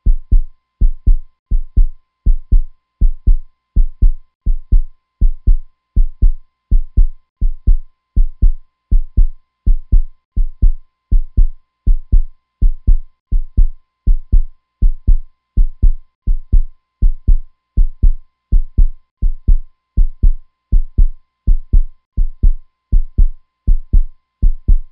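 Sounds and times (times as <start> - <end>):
heartbeat thumps: 0.0 - 24.9.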